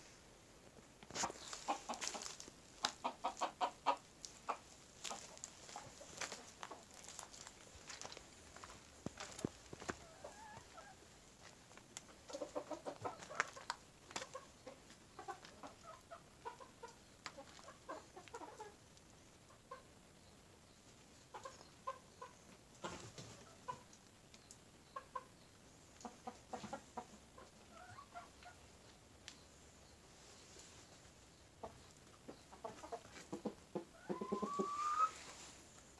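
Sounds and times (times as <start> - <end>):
chickens clucking softly: 0.8 - 11.4, 12.0 - 35.9.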